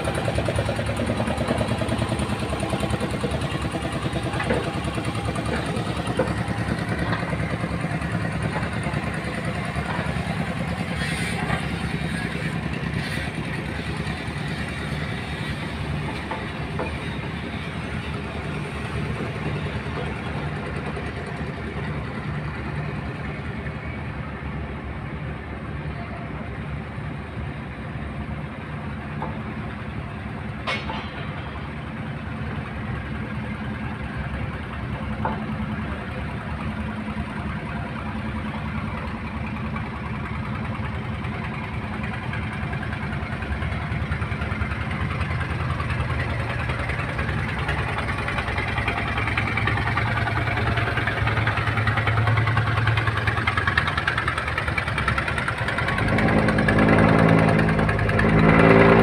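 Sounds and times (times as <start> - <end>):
boat diesel engine chugging: 0.0 - 59.0.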